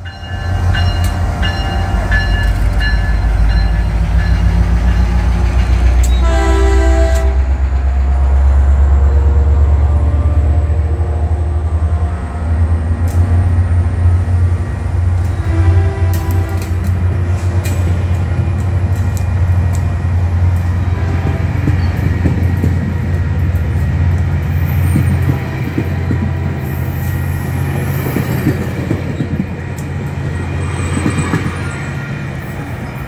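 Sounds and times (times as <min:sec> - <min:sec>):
train wheels on rails: 0:00.0 - 0:33.0.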